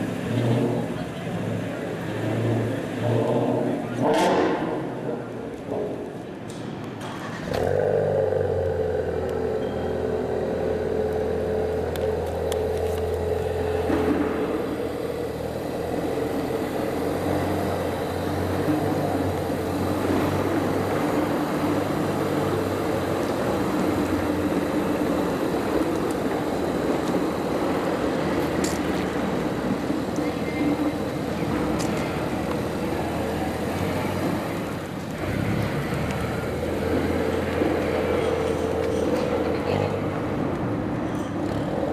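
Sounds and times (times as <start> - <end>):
car engine and exhaust running: 0.0 - 41.9.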